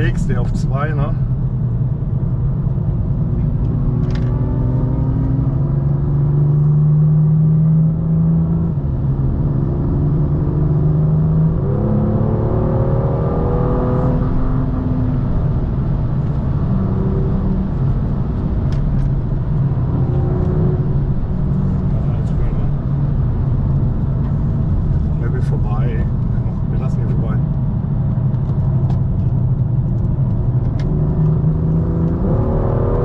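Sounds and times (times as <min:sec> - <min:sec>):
car engine revving: 0:03.1 - 0:27.3, 0:28.4 - 0:33.0.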